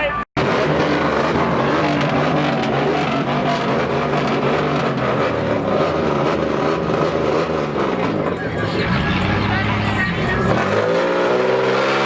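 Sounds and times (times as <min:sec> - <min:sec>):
truck engine running loudly: 0:00.0 - 0:12.0.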